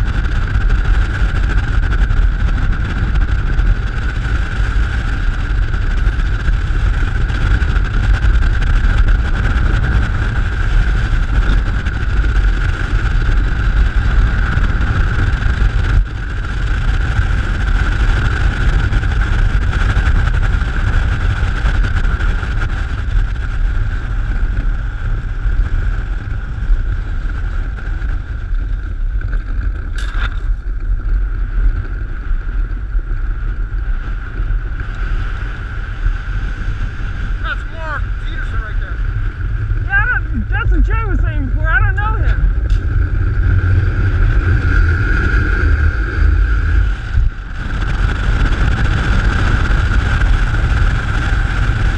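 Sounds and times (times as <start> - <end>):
constant high hum: 0.0 - 51.9
wind buffeting microphone: 0.0 - 51.9.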